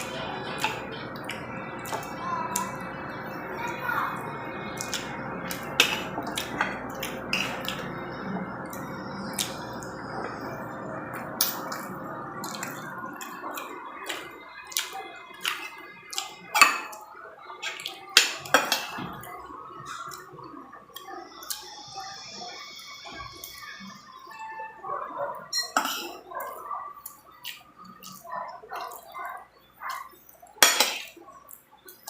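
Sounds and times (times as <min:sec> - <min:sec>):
wet eating sounds: 0:00.0 - 0:24.3, 0:25.0 - 0:32.0.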